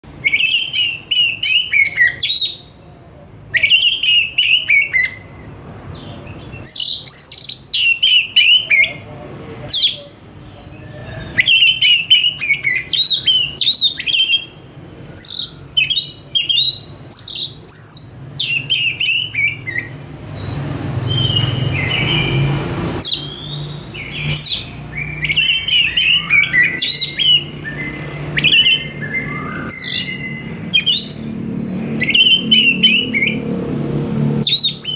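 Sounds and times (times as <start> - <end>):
bird singing whistled phrases: 0.2 - 2.7, 3.5 - 5.4, 6.6 - 9.0, 10.8 - 33.4, 34.4 - 34.9.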